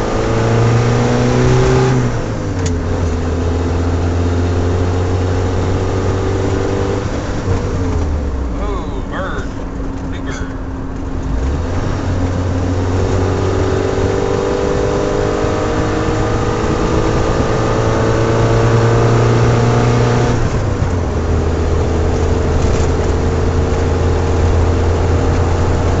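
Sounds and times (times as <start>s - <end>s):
car engine at full throttle: 0.0s - 26.0s.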